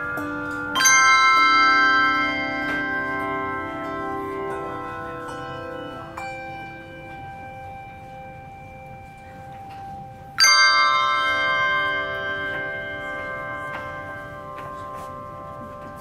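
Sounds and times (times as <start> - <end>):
handbells ringing: 0.0 - 16.0.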